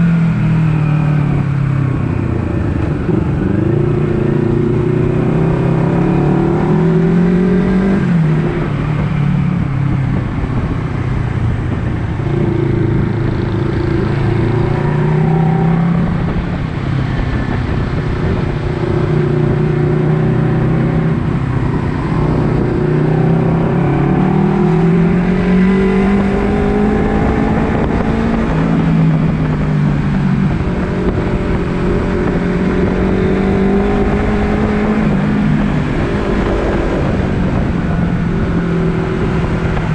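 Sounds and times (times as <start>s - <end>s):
motorcycle engine revving and shifting: 0.0s - 39.9s.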